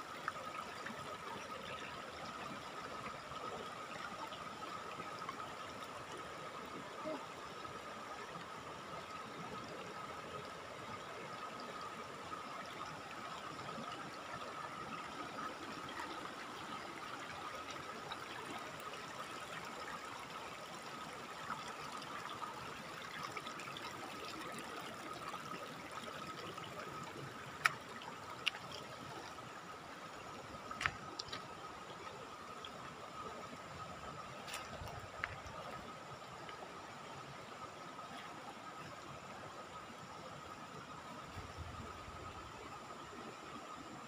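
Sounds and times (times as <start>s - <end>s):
river water over rocks: 0.0s - 44.0s.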